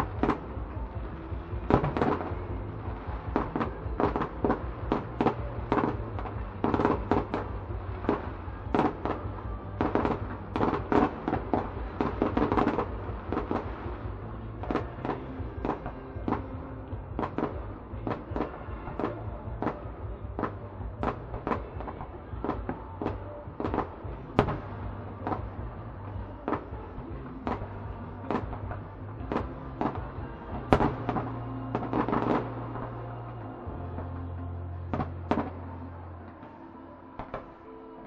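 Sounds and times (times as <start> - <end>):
fireworks bursting: 0.0 - 38.0.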